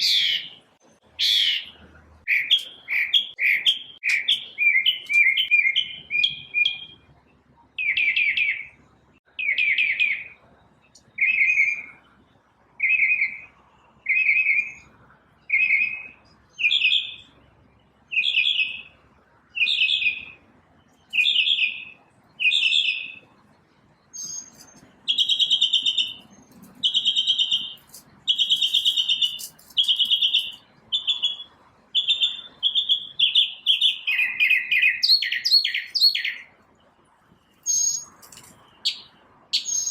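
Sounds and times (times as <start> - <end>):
bird singing chirping phrases: 0.0 - 39.9.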